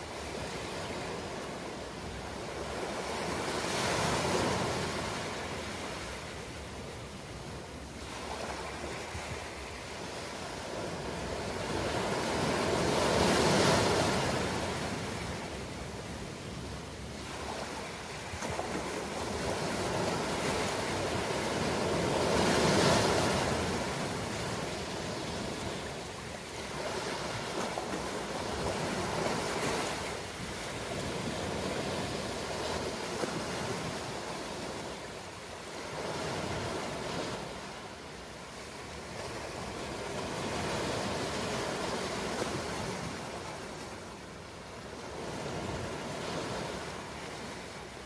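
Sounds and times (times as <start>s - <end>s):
ocean waves breaking on shore: 0.0s - 48.0s.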